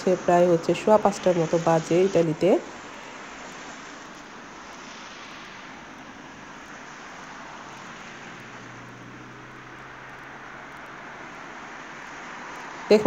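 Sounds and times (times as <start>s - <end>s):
rain falling: 0.0s - 13.0s
traffic on a wet road: 0.0s - 13.0s.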